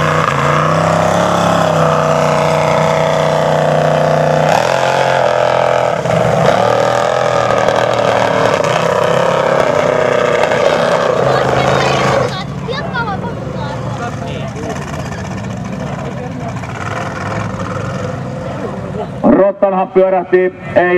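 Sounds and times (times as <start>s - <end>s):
buggy engine revving hard: 0.0s - 19.2s.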